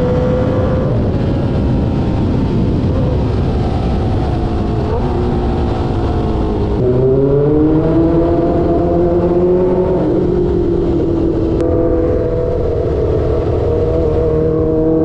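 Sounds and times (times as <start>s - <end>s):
motorcycle engine revving: 0.0s - 15.0s
wind rushing: 0.0s - 15.0s.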